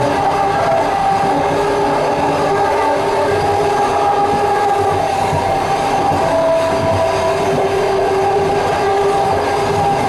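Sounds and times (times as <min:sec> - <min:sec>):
humming tones: 0:00.0 - 0:10.0
train wheels rumbling on rail: 0:00.0 - 0:10.0.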